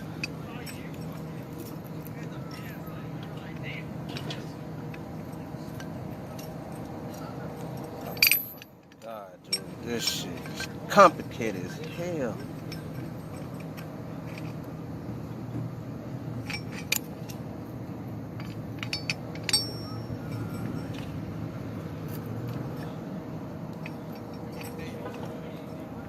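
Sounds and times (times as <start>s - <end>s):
metal tent frame clinking: 0.0s - 15.3s, 16.2s - 26.0s
steady low hum: 0.0s - 26.0s.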